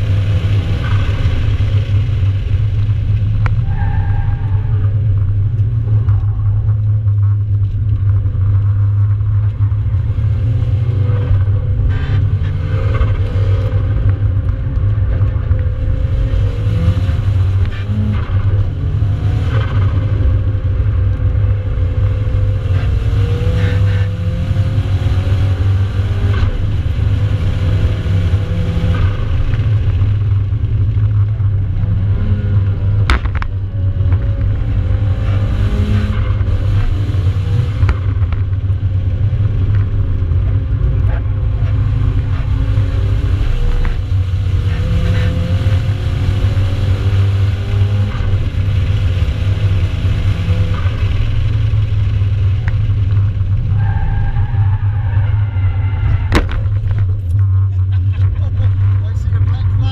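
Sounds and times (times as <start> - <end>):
car engine and road noise drone: 0.0 - 59.9.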